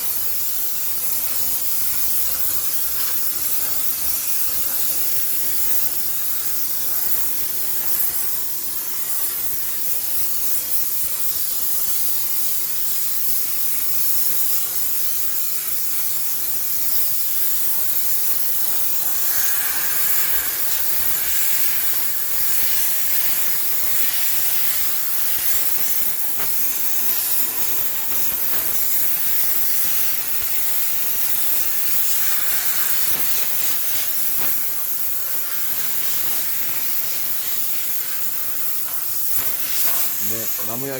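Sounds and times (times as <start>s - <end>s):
steam jetting hiss: 0.0s - 40.9s.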